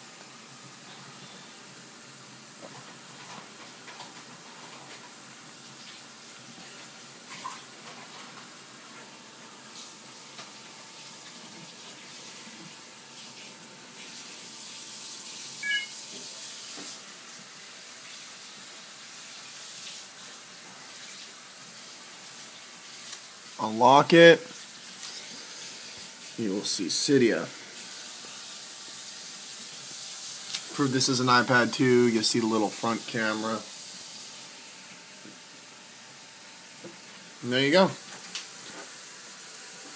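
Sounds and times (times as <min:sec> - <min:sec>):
room background hiss: 0:00.0 - 0:39.9.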